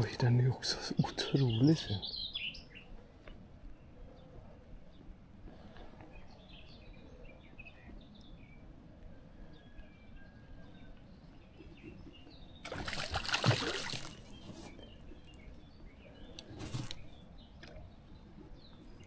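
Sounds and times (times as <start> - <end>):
faint background noise: 0.0 - 19.0
small birds chirping: 0.0 - 19.0.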